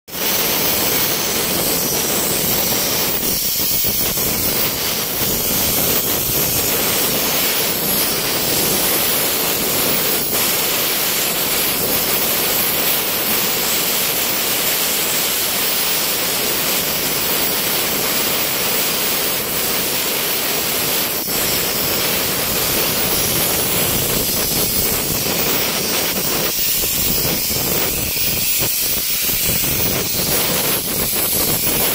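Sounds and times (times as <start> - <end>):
plasma torch hissing: 0.1 - 31.9.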